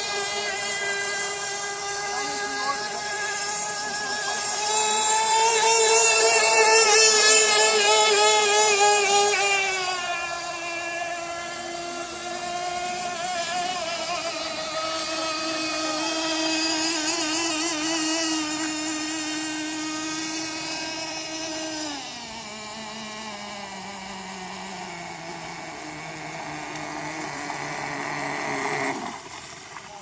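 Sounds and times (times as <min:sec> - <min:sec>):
two-stroke model boat engine: 0:00.0 - 0:30.0.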